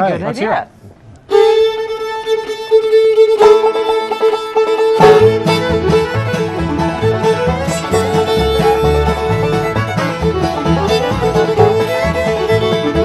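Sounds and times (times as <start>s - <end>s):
bluegrass band playing: 1.3s - 13.0s
fiddle playing: 1.3s - 13.0s.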